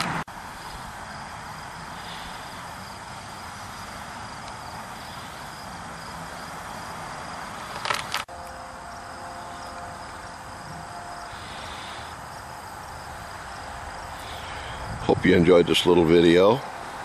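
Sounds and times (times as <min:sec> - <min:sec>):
outdoor background hiss: 0:00.0 - 0:17.0
insects chirring: 0:00.2 - 0:17.0.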